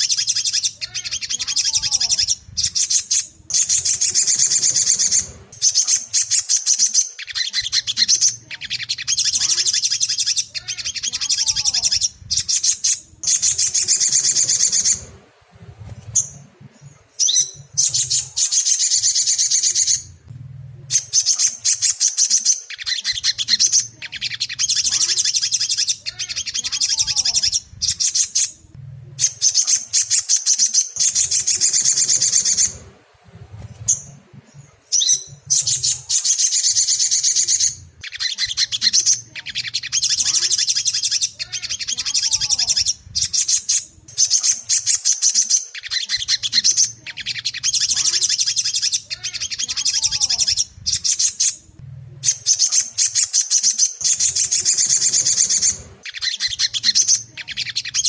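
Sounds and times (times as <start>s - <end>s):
sunbird twittering song: 0.0s - 20.2s, 20.9s - 58.0s.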